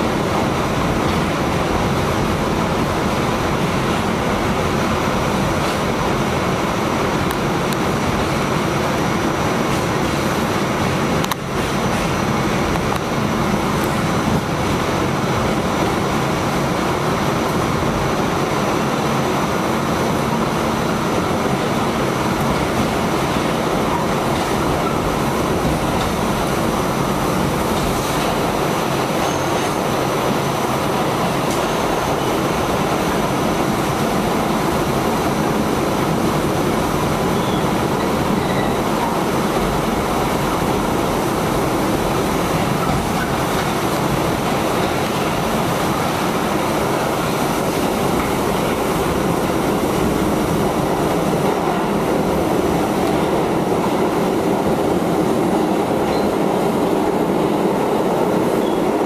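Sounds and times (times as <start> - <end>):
subway wheels on rails: 0.0 - 59.0.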